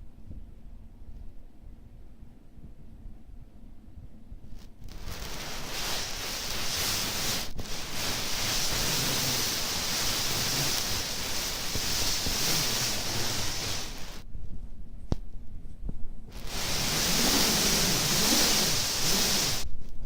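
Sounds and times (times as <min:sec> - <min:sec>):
air conditioner blowing air: 0:00.0 - 0:20.0.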